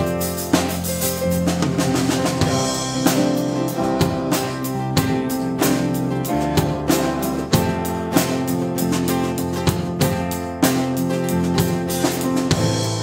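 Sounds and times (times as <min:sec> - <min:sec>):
acoustic guitar: 0:00.0 - 0:13.0
drum kit steady beat: 0:00.0 - 0:13.0.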